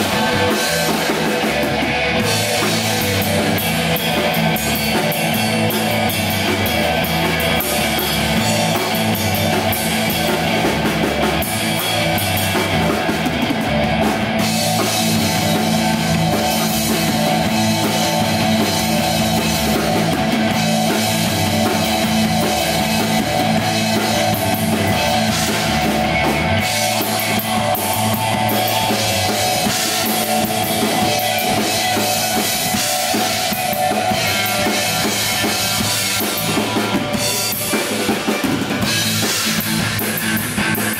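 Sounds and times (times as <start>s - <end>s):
drum kit: 0.0s - 40.9s
electric bass: 0.0s - 40.9s
electric guitar: 0.0s - 40.9s.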